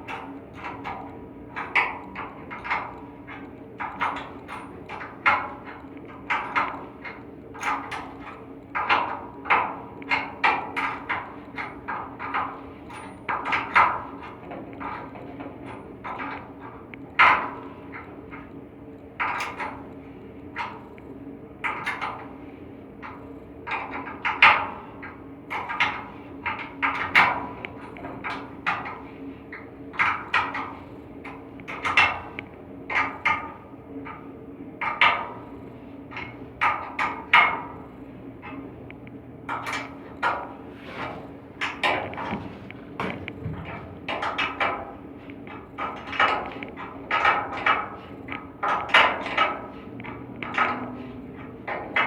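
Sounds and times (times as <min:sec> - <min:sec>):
machinery hum: 0:00.0 - 0:52.0.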